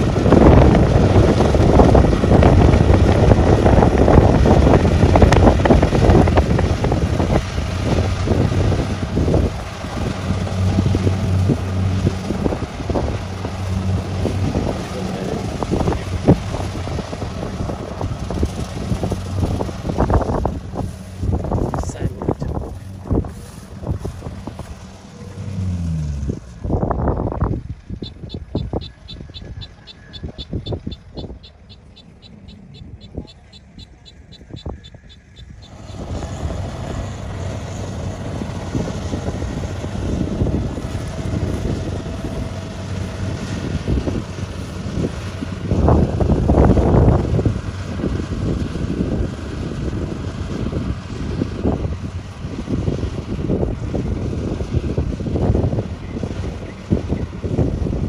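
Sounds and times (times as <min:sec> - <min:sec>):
diesel engine running under load: 0:00.0 - 0:58.0
wind buffeting microphone: 0:00.0 - 0:58.0.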